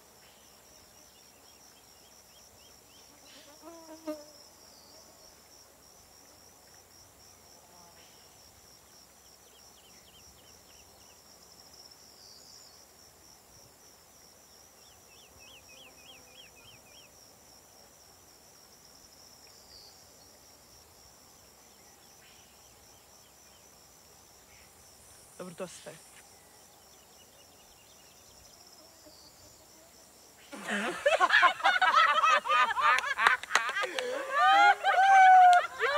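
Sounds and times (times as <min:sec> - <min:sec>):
quick insect chirps: 0:00.0 - 0:17.4, 0:18.6 - 0:34.2
insects pulsing chorus: 0:00.2 - 0:35.9.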